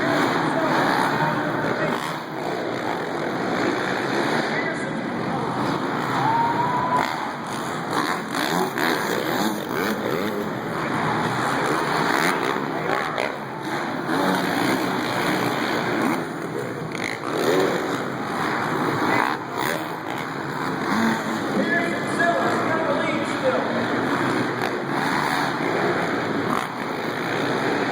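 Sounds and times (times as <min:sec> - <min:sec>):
dirt bike engines revving: 0:00.0 - 0:27.9.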